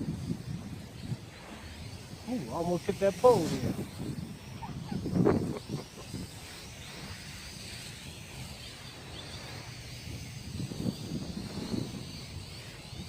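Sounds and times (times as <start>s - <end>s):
drone motors whining: 0.0s - 13.0s
wind rumbling on microphone: 0.0s - 13.0s.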